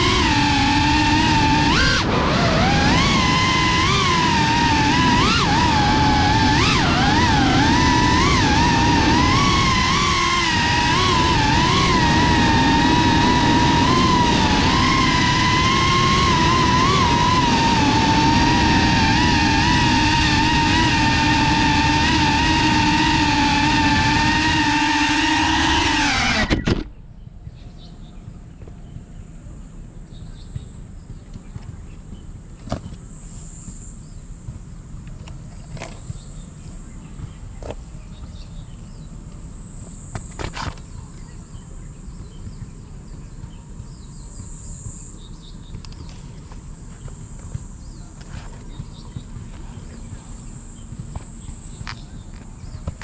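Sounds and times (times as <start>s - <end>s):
quadcopter motors whining: 0.0s - 27.2s, 28.0s - 53.0s.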